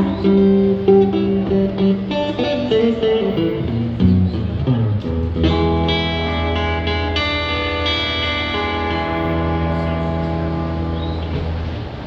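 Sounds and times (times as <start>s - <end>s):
blues guitar picking and chord: 0.0s - 12.0s.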